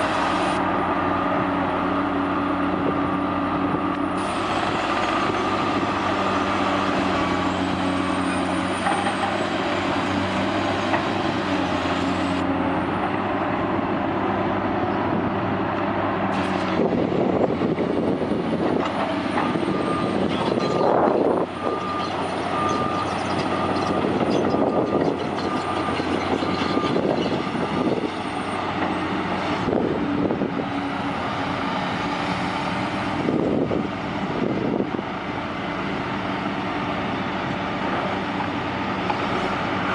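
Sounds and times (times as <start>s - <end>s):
heavy diesel engines under load: 0.0s - 39.9s.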